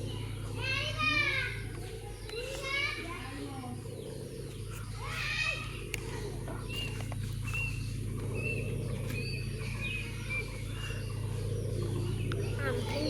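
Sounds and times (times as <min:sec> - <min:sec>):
bird chirping: 0:00.0 - 0:13.0
steady low hum: 0:00.0 - 0:13.0.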